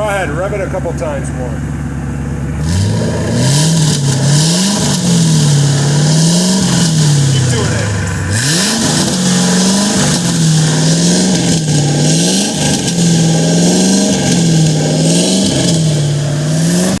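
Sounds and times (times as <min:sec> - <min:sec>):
car engine revving high: 0:01.6 - 0:17.0.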